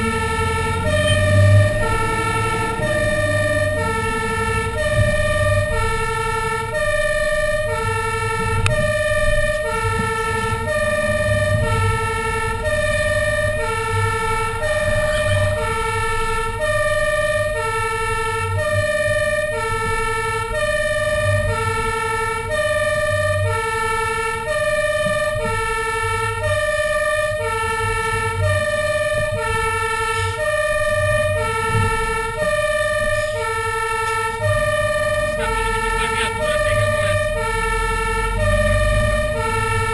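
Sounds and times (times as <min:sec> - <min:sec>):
diesel engine rumble: 0:00.0 - 0:39.9
fire engine siren: 0:00.0 - 0:39.9.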